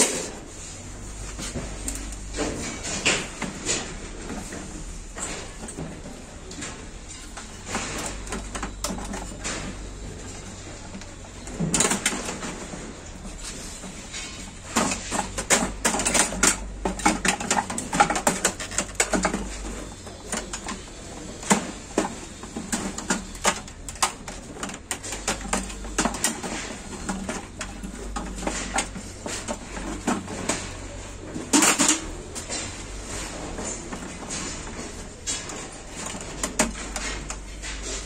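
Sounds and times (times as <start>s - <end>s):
metal computer case clattering: 1.4s - 38.0s.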